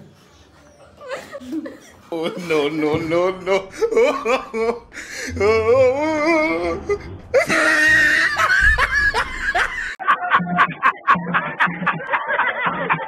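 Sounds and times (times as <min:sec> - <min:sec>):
man laughing loudly: 0:01.2 - 0:13.0.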